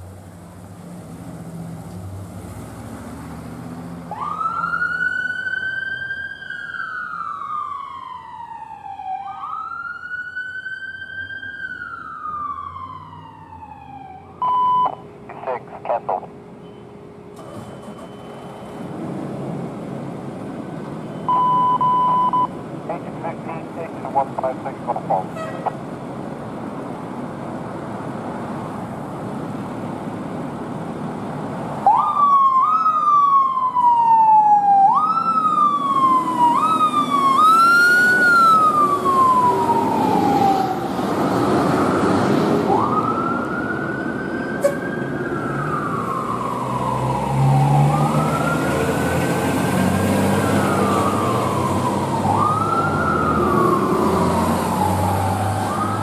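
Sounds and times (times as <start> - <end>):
traffic noise: 0.0 - 56.0
emergency vehicle siren: 2.6 - 25.9, 30.7 - 56.0.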